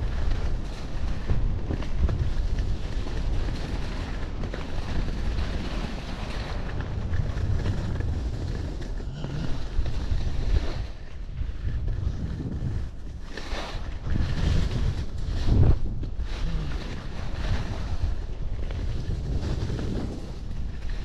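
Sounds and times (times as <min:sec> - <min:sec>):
skis scraping over snow: 0:00.0 - 0:21.0
wind buffeting microphone: 0:00.0 - 0:21.0.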